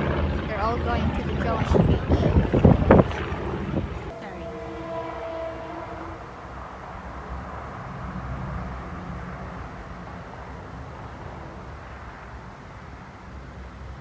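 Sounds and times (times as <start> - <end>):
aircraft engine drone: 0.0 - 14.0
wind rumbling on microphone: 0.0 - 14.0.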